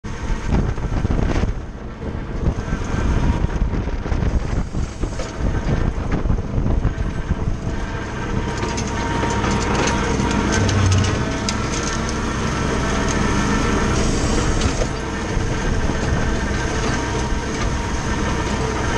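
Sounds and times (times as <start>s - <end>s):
tractor diesel engine: 0.0s - 18.9s
wind buffeting microphone: 0.0s - 18.9s
flail mower cutting grass: 2.0s - 18.9s.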